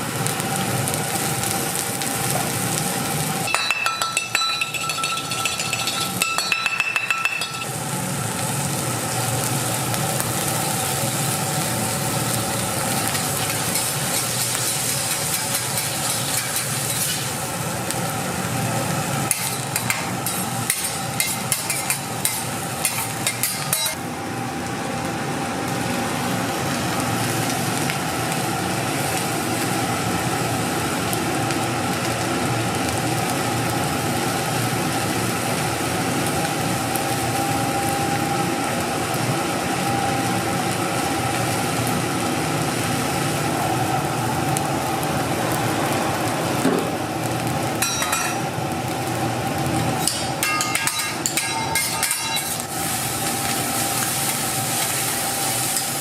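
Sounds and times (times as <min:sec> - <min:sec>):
rice sizzling in a pan: 0:00.0 - 0:56.0
steady machine hum: 0:03.0 - 0:55.4.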